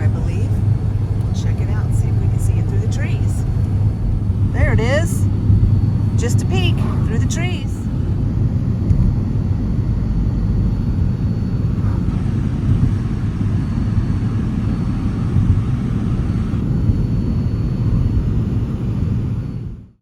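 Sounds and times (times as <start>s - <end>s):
vehicle engine and tyre noise: 0.0s - 18.6s.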